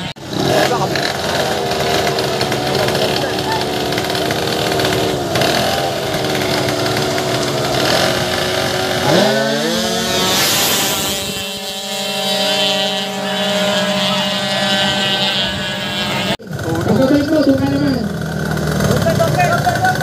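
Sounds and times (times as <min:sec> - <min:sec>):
scooter engine revving: 0:00.0 - 0:20.0.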